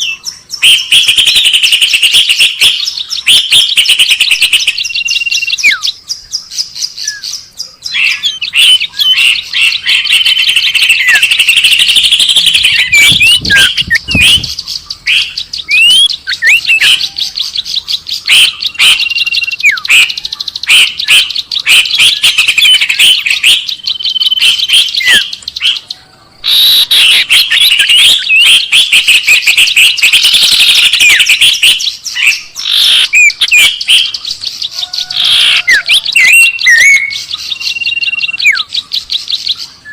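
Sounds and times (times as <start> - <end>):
recorded birdsong chirping: 0.0 - 39.9.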